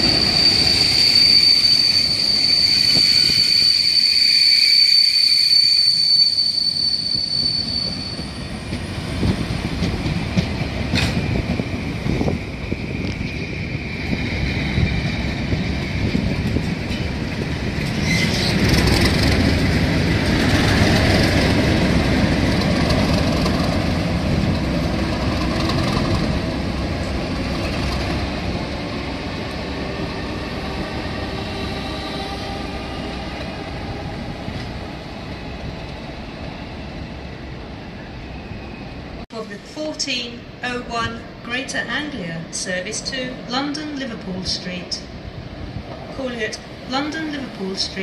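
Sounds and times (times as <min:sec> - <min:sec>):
train rumbling past: 0:00.0 - 0:48.0.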